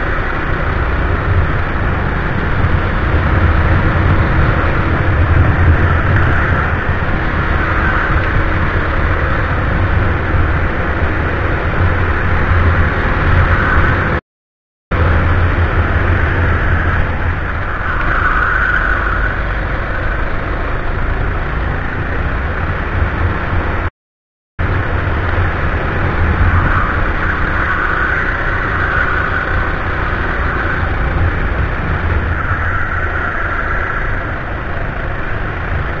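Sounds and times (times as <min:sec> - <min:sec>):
go-kart engine running hard: 0:00.0 - 0:14.2, 0:14.9 - 0:23.9, 0:24.6 - 0:36.0
rushing air: 0:00.0 - 0:14.2, 0:14.9 - 0:23.9, 0:24.6 - 0:36.0.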